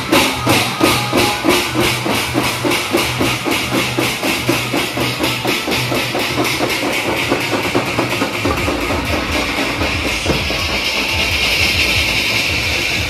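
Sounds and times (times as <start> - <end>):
steel drums beaten with sticks: 0.0 - 13.0.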